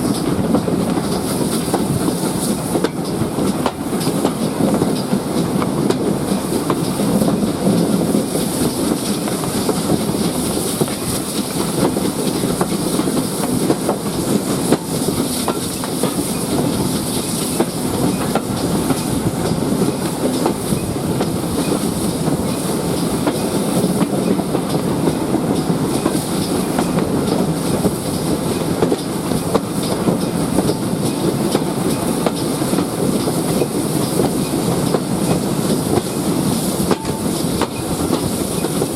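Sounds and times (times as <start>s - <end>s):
train carriages rumbling: 0.0s - 38.9s.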